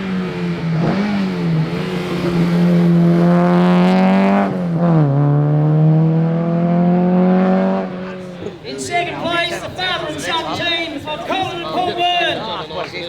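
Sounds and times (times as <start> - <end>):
car engine revving under load: 0.0 - 11.2.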